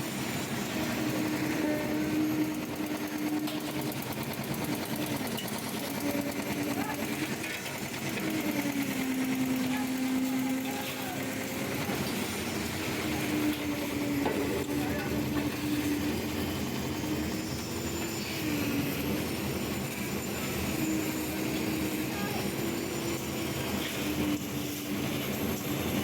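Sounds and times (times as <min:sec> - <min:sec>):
concrete mixer engine running: 0:00.0 - 0:26.0.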